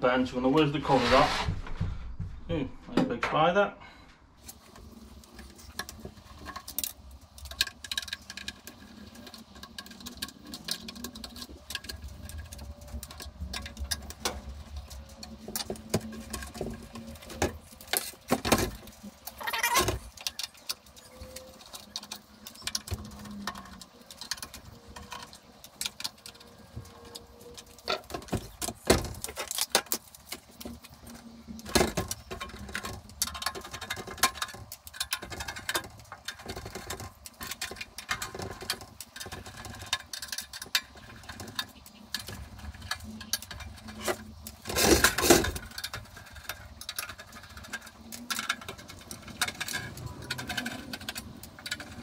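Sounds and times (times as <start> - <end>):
screws and metal cover rattling: 4.4 - 52.0
metal clatter: 4.5 - 52.0.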